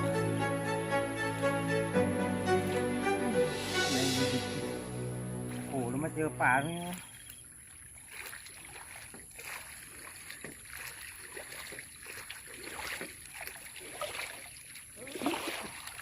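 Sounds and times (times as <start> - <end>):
water splashing: 0.0 - 16.0.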